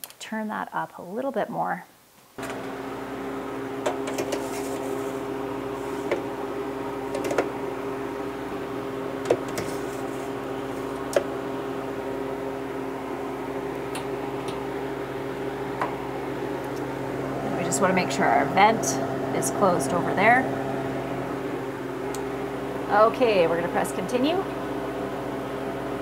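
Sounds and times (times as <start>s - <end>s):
electric appliance hum: 2.4s - 26.0s.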